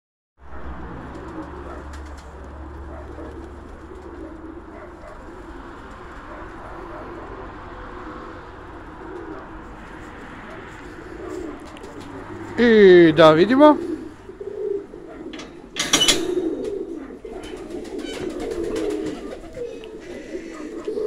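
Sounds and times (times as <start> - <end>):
pigeons cooing: 0.5 - 21.0.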